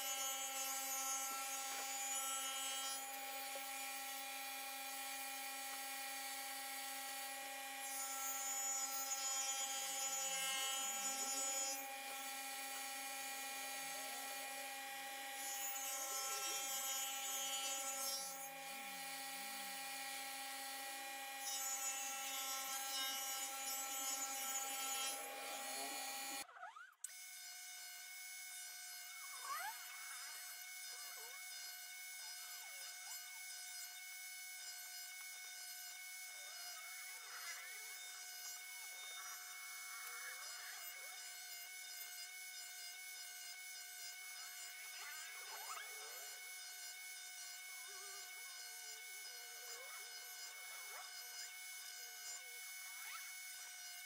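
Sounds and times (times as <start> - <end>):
saw cutting wood: 0.0 - 54.0
table saw whining: 0.0 - 54.0.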